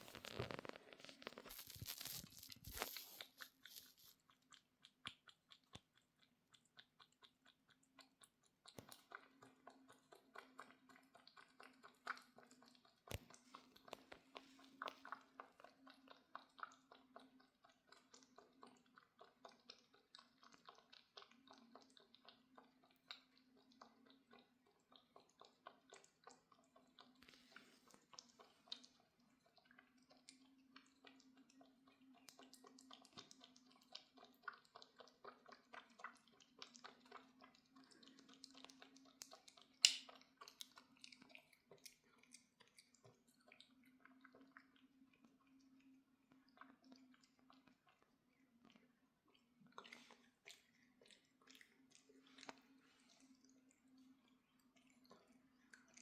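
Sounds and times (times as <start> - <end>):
cat chewing crunchy food: 0.0 - 56.0.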